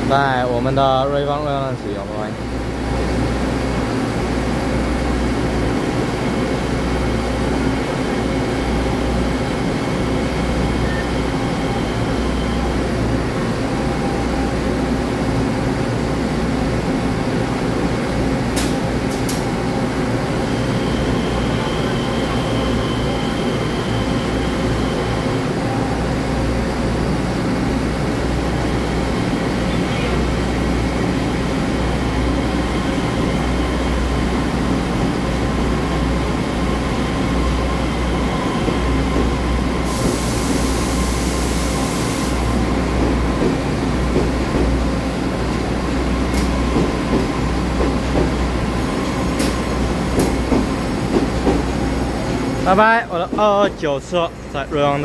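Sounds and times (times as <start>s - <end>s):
electric train passing: 2.7s - 55.0s.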